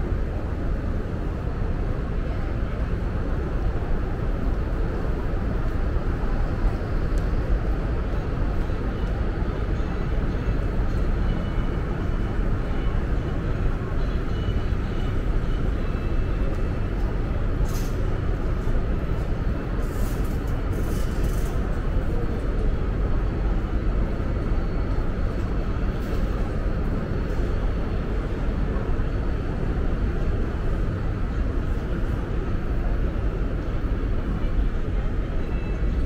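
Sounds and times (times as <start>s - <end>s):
station concourse rumble: 0.0s - 36.0s.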